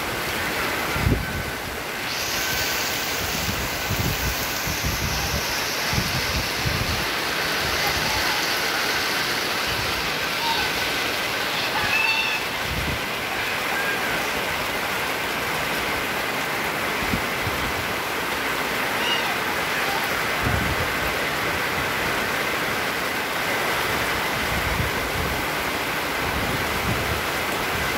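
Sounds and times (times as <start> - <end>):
heavy rain on tarpaulin: 0.0 - 27.9.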